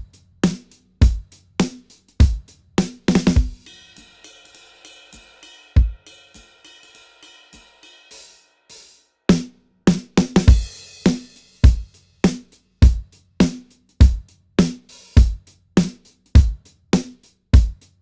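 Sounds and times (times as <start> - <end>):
drum beat: 0.0 - 8.3, 9.3 - 18.0
hi-hat ticks: 0.0 - 9.1, 10.5 - 18.0.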